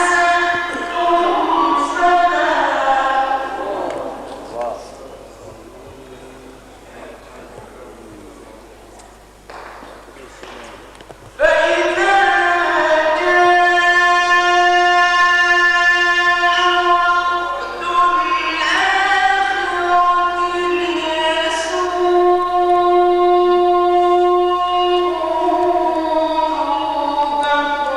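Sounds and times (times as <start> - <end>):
man chanting melodically: 0.0 - 8.3, 11.4 - 27.9.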